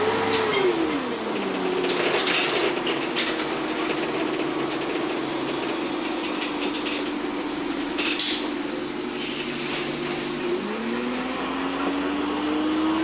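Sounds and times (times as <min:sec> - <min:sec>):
air-conditioning fans blowing: 0:00.0 - 0:13.0
bus drivetrain whine: 0:00.0 - 0:13.0
road noise: 0:00.0 - 0:13.0.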